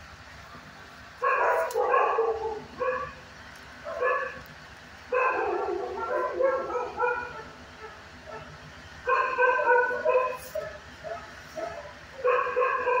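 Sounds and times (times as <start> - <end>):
dogs barking and yipping: 1.2 - 4.5, 5.1 - 13.0.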